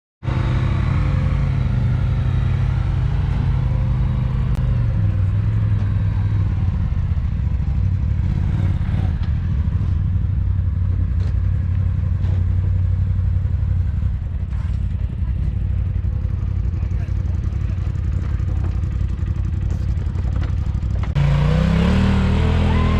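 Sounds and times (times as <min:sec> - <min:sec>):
utility vehicle engine running: 0:00.2 - 0:22.9.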